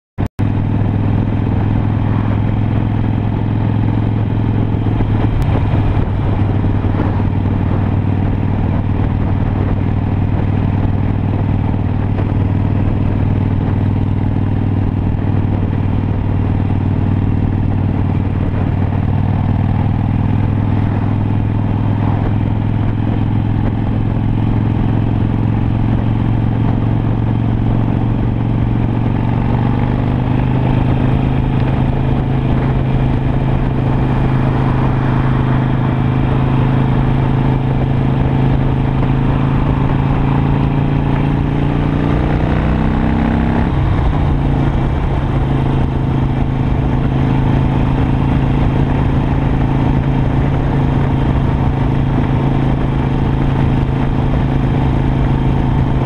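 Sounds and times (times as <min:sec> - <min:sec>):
motorcycle engine cruising: 0:00.4 - 0:56.0.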